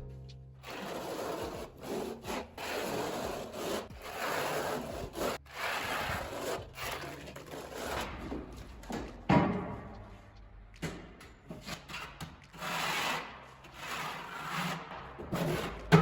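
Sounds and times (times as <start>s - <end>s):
scraping on hard surface: 0.6s - 9.0s, 11.5s - 16.0s.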